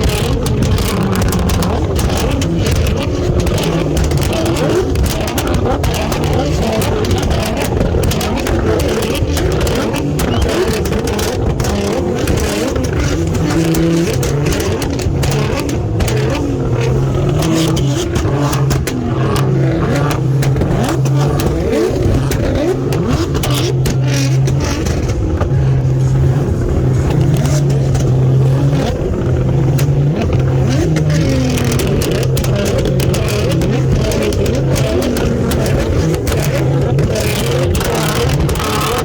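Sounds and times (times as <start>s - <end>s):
car engine revving: 0.0s - 39.0s
exhaust crackles: 0.0s - 39.0s.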